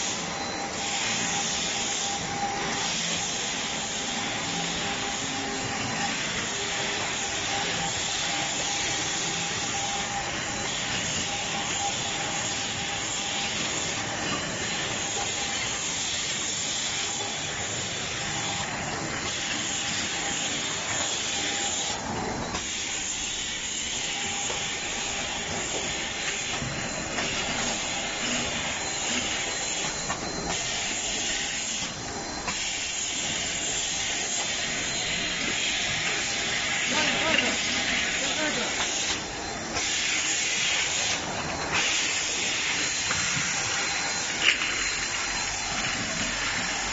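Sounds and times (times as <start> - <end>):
packing machine hissing: 0.0 - 46.9.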